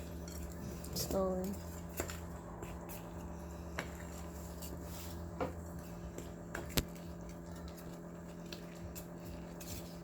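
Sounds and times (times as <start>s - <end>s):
batter stirred in a bowl: 0.0s - 10.0s
steady low hum: 0.0s - 10.0s.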